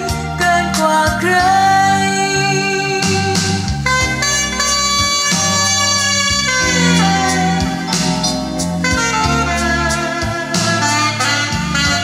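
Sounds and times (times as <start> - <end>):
instrumental music from a record: 0.0 - 12.0.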